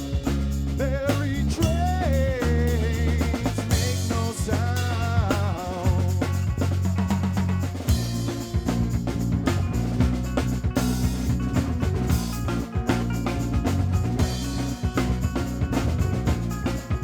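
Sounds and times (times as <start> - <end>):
live band playing instrumental: 0.0 - 1.8, 3.5 - 17.0
drum kit beat: 0.0 - 17.0.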